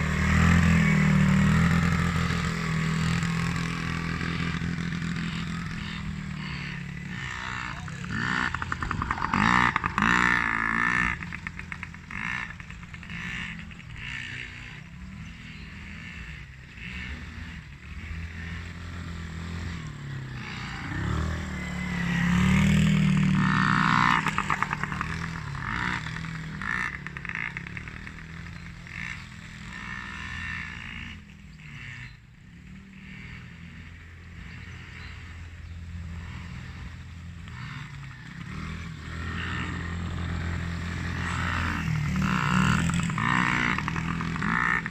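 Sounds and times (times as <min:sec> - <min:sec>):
motorbike and quad engines revving: 0:00.0 - 0:44.9.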